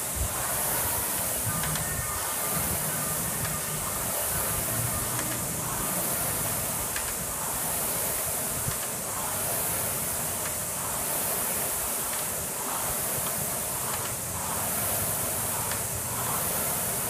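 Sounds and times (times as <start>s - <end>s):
rowing machine fan whooshing: 0.0s - 17.0s.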